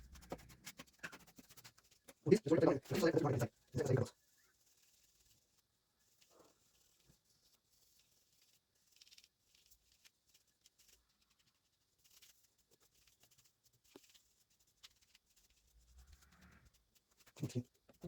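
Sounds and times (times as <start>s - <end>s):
soft rubbing sounds: 0.0s - 18.0s.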